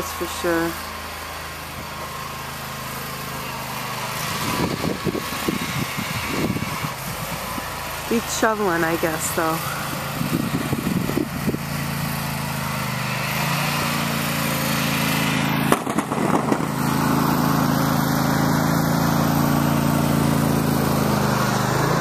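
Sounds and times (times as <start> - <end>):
plow blade pushing snow: 0.0 - 22.0
small tractor engine running: 0.0 - 22.0.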